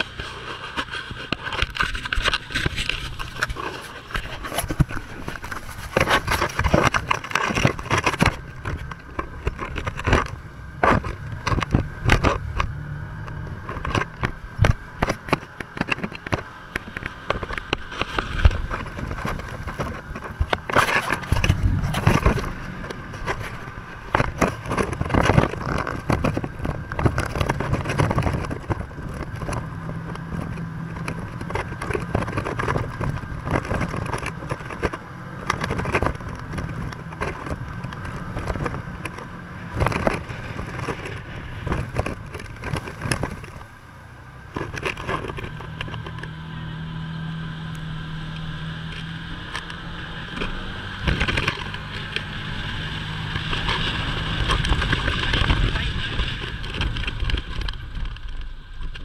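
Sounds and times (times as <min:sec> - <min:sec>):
body knocking and rattling: 0:00.0 - 0:59.0
buggy engine running: 0:00.0 - 0:59.0.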